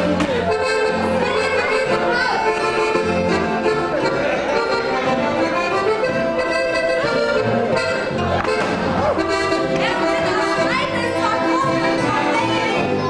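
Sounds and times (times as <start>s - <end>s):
plucked double bass: 0.0s - 11.0s
folk band playing dance tune: 0.0s - 13.0s.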